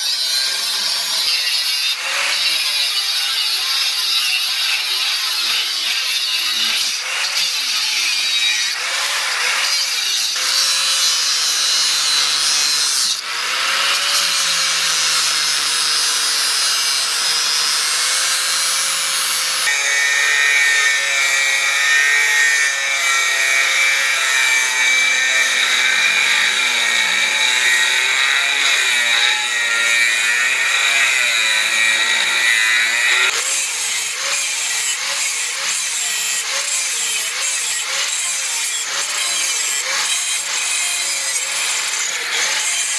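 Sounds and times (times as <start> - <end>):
power tool grinding steel: 0.0 - 42.9.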